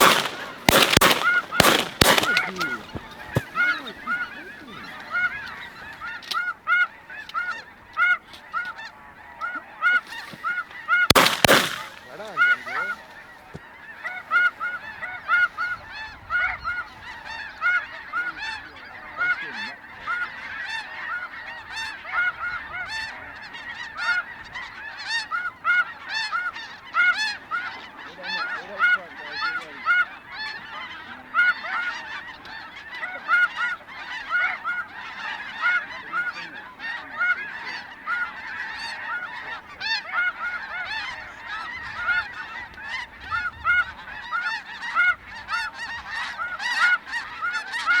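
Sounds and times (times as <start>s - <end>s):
geese honking: 0.0s - 48.0s.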